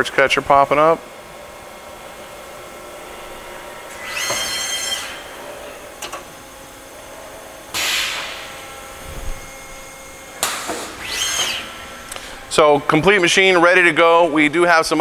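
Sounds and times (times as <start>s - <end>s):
lathe machine hum: 0.0s - 15.0s.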